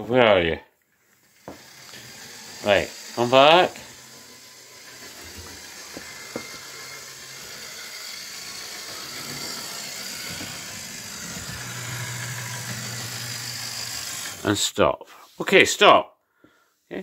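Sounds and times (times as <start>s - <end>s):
model train motor whirring: 1.0s - 15.8s.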